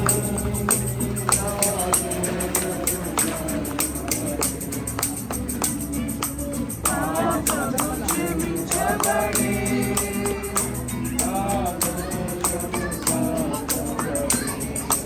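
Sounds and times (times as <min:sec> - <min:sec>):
group singing worship song: 0:00.0 - 0:05.2, 0:06.7 - 0:15.0
tambourine beat: 0:00.0 - 0:15.0.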